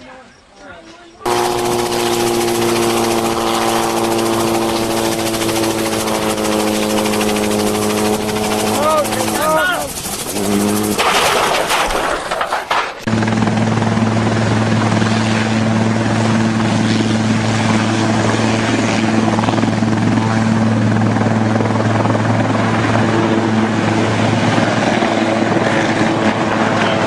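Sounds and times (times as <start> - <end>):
helicopter droning: 1.2 - 27.0.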